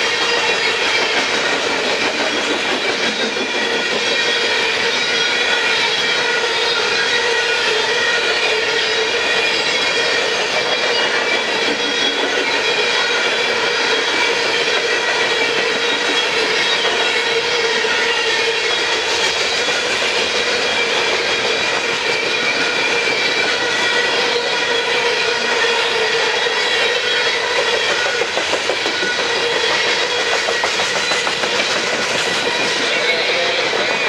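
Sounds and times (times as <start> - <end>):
train cars rolling on steel wheels: 0.0 - 34.0.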